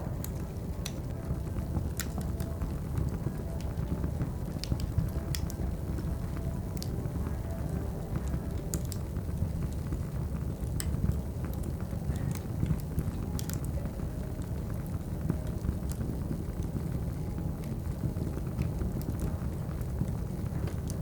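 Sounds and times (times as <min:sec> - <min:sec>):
cafe background noise: 0:00.0 - 0:21.0
wood fire crackling: 0:00.0 - 0:21.0.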